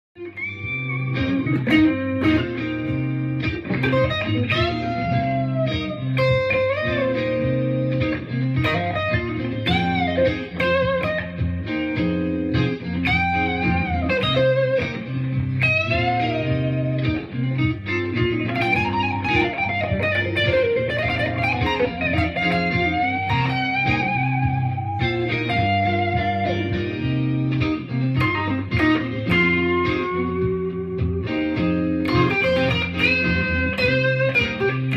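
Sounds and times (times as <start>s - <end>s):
electric guitar blues lead: 0.2s - 34.9s
looped blues chord backing: 0.2s - 34.9s.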